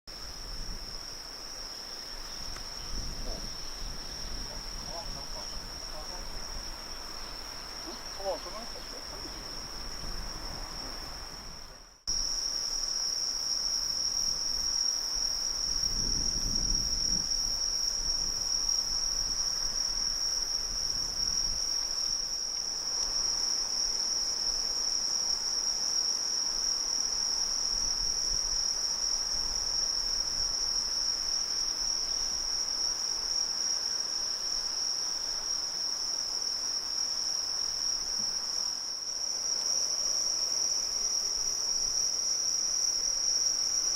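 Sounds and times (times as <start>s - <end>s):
crickets chirring: 0.1s - 43.9s.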